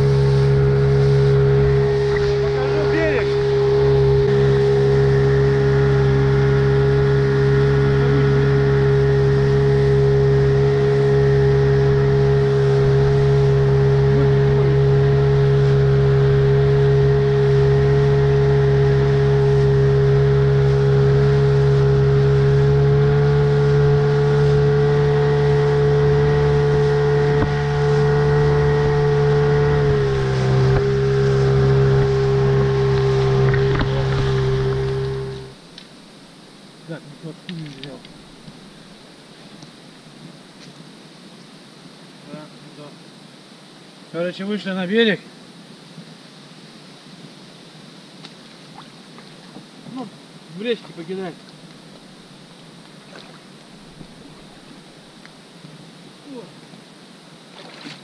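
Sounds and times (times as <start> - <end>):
outboard motor droning: 0.0 - 58.0
water noise: 0.0 - 58.0
wind: 0.0 - 58.0.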